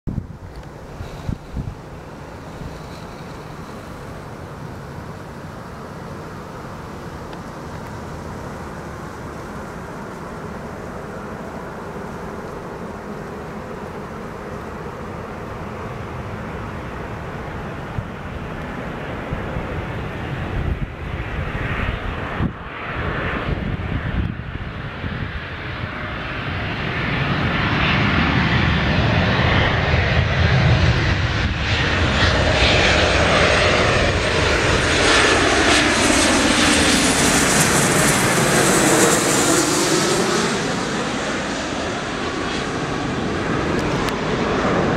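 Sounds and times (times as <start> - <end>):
high engine whine: 0.1 - 44.9
jet airliner flying overhead: 0.1 - 44.9.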